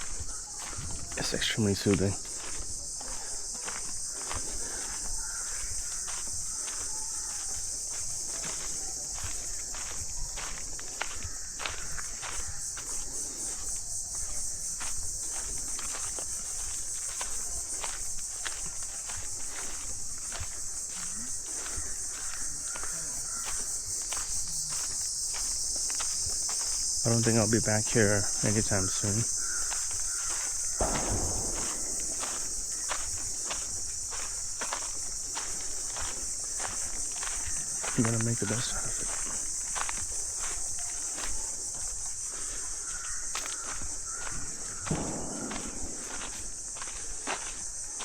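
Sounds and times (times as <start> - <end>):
footsteps on forest path: 0.0 - 48.0
forest insects chorus: 0.0 - 48.0.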